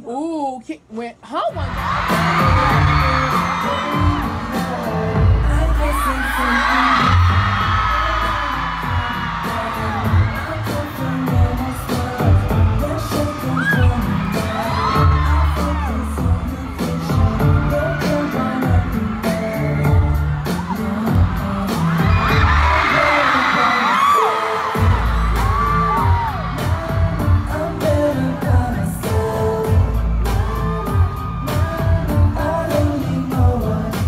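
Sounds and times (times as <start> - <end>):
pop song with singing over heavy beat: 1.4 - 34.0
fans screaming: 1.6 - 34.0.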